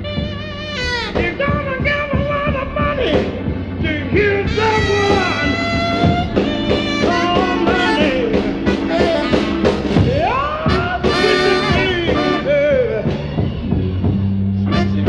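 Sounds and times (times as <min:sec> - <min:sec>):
bluesy rock song with singing: 0:00.0 - 0:15.0.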